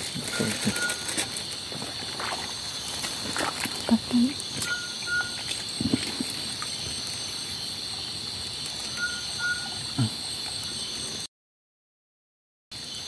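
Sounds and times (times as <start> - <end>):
night insects chorus: 0.0 - 11.3, 12.7 - 13.0.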